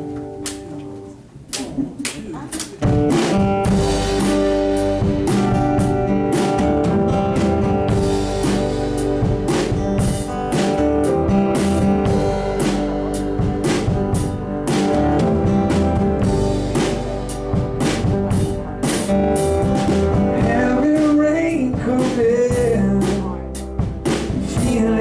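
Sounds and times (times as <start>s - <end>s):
guitar: 0.0s - 25.0s
drum kit beat: 1.4s - 25.0s.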